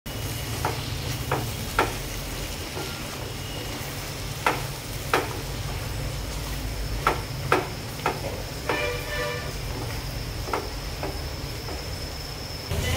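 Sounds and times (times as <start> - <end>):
vegetables sizzling in a pot: 0.1 - 12.9.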